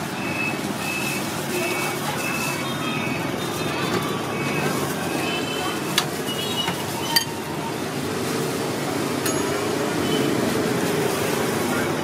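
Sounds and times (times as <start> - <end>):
low traffic hum: 0.0 - 12.0.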